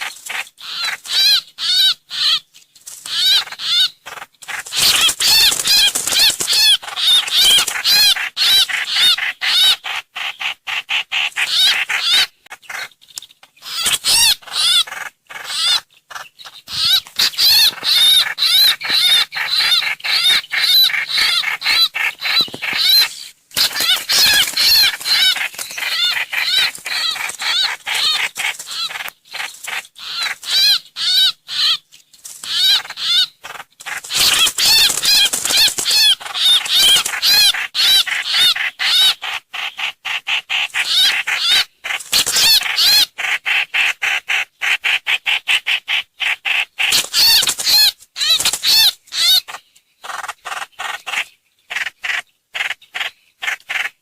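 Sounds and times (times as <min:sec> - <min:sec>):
songbird high chattering calls: 0:00.0 - 0:02.5, 0:03.1 - 0:54.0.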